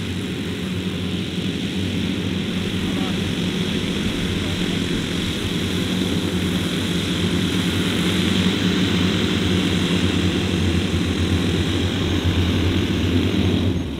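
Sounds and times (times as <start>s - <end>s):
model aircraft engines droning: 0.0s - 13.9s.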